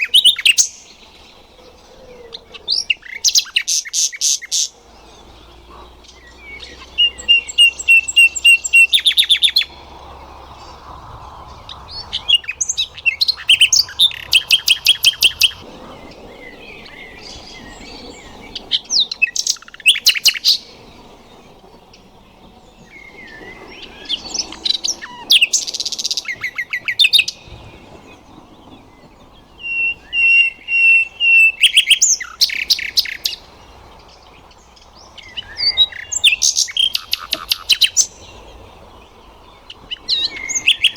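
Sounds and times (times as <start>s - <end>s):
nightingale singing: 0.0s - 40.9s.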